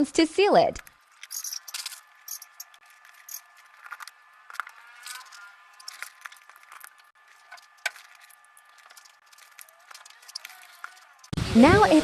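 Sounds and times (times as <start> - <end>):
phone handling clicks and scrapes: 0.8 - 11.3.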